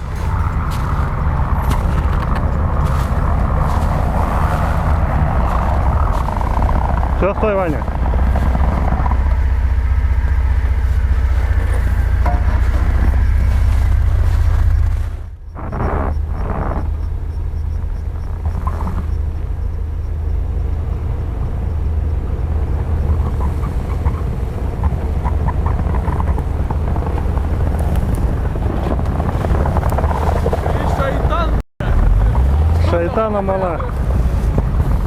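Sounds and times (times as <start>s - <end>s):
suv engine low rumble: 0.0s - 35.0s.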